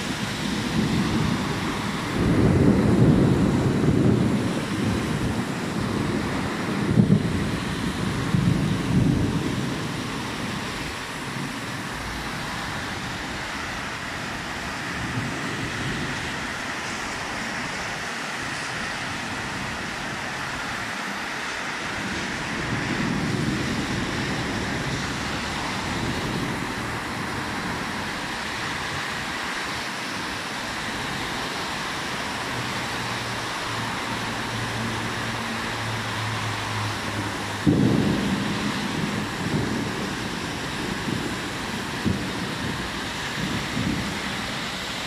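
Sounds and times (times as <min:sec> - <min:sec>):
cars swishing on wet road: 0:00.0 - 0:45.0
heavy rain pouring: 0:00.0 - 0:45.0
wind rumbling on microphone: 0:00.0 - 0:45.0.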